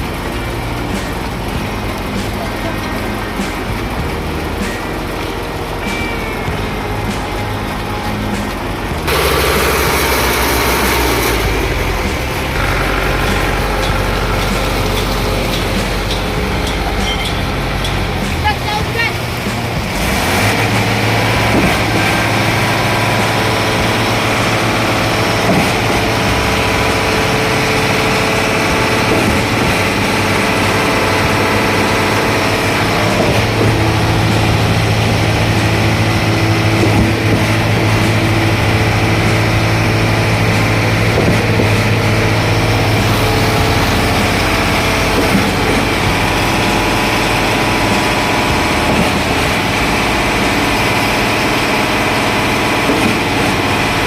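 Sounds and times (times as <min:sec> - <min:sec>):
concrete pump engine humming: 0:00.0 - 0:54.0.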